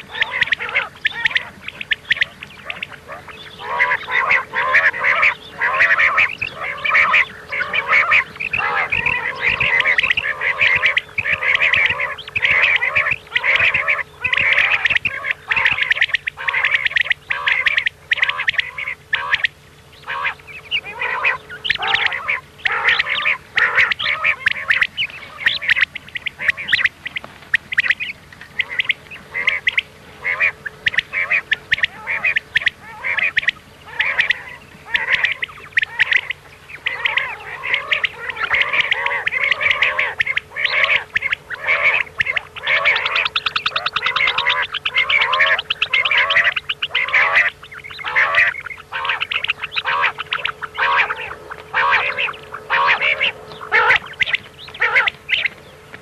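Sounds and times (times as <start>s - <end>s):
faint steady hum: 0.0s - 56.0s
quail calls: 0.0s - 56.0s.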